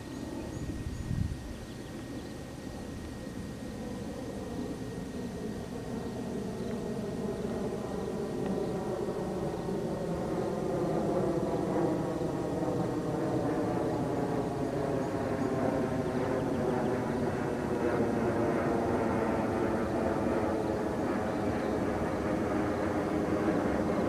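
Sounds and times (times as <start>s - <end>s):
small plane engine droning: 0.0s - 24.0s.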